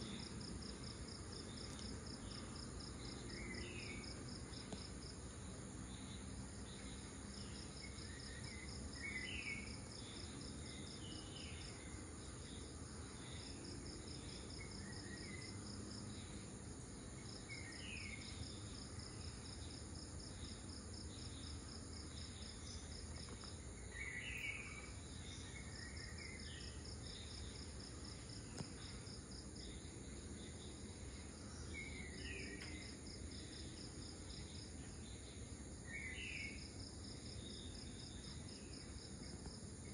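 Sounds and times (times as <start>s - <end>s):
insects chirping in pulsing trill: 0.0s - 39.9s.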